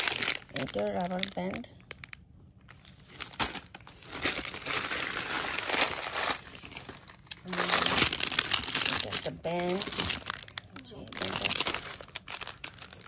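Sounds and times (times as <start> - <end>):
plastic and paper wrapping rustling: 0.0 - 13.0.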